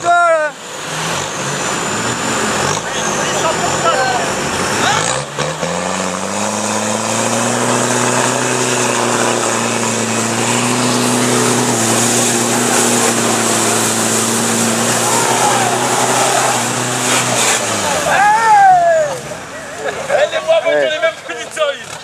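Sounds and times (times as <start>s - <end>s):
off-road engine revving in mud: 0.0s - 22.0s.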